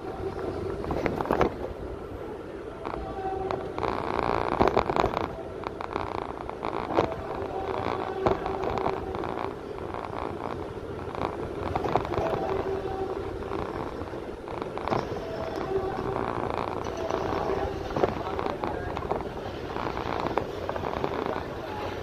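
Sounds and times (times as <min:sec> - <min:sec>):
vehicle ride rumble: 0:00.0 - 0:22.0.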